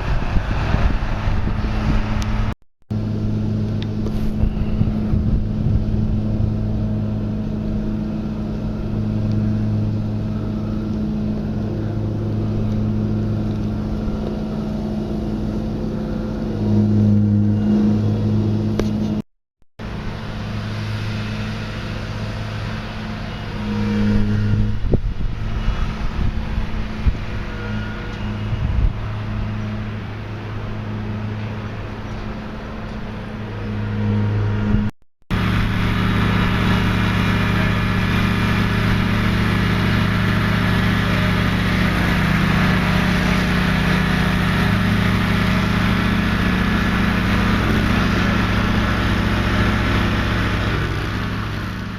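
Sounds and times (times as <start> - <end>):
motor engine humming: 0.0 - 19.2, 19.8 - 51.9.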